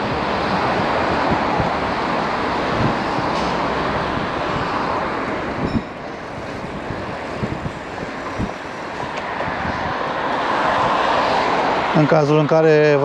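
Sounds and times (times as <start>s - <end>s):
wind on microphone: 0.0s - 11.9s
road traffic noise: 0.0s - 13.0s.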